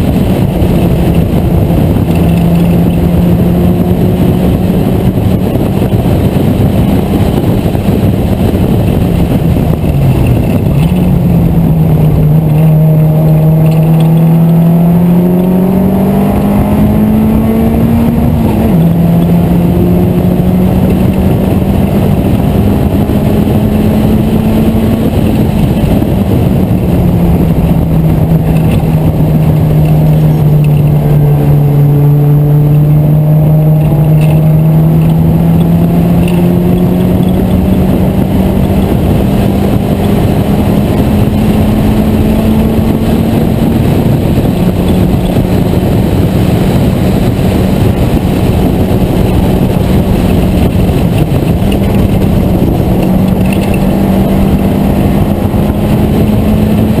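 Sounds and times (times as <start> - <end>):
race car engine revving: 0.0 - 57.0
wind and road noise: 0.0 - 57.0.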